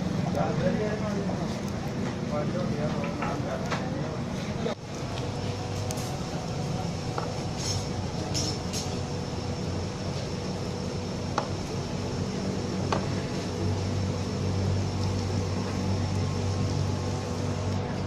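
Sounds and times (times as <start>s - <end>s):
fan motor humming: 0.0s - 18.0s.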